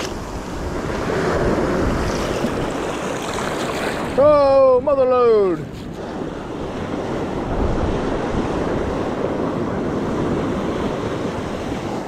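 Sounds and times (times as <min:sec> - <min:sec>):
ocean surf washing up beach: 0:00.0 - 0:12.0
wind buffeting microphone: 0:00.0 - 0:12.0.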